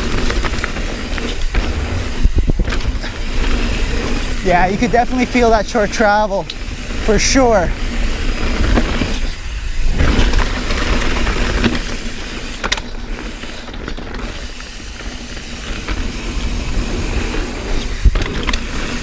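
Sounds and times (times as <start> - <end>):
bike freewheel clicking: 0.0 - 19.0.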